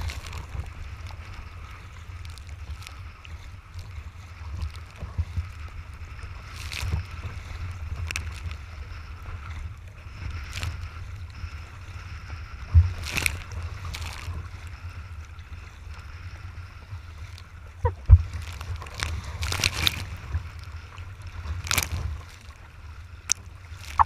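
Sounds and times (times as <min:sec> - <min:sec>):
water slapping against hull: 0:00.0 - 0:24.0
wind rumbling on microphone: 0:00.0 - 0:24.0.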